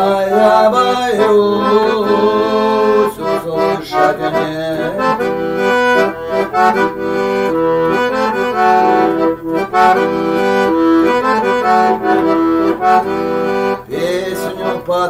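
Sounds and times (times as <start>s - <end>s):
accordion melody over chords: 0.0s - 15.0s.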